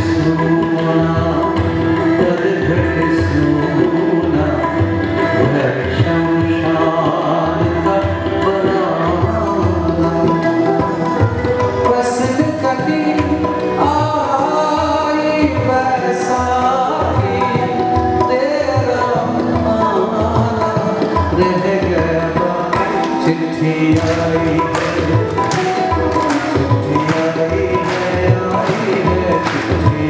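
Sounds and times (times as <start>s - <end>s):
harmonium chords: 0.0s - 30.0s
man singing: 0.0s - 30.0s
tabla drumming: 0.0s - 30.0s.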